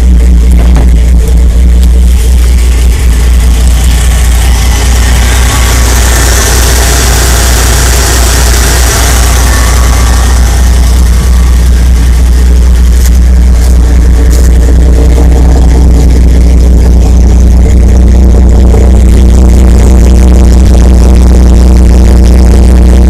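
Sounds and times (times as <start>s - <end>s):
engine idling with low rumble: 0.0s - 23.0s
fan and intake rush: 0.0s - 23.0s.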